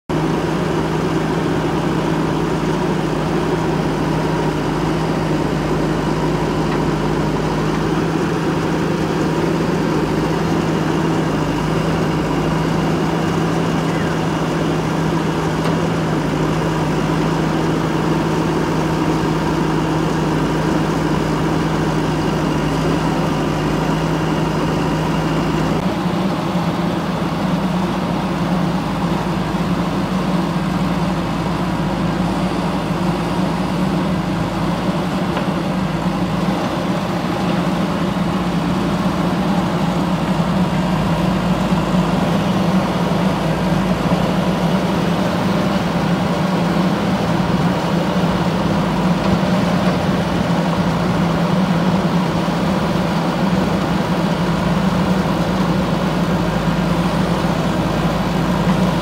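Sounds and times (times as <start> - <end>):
backhoe diesel engine running: 0.1 - 59.0.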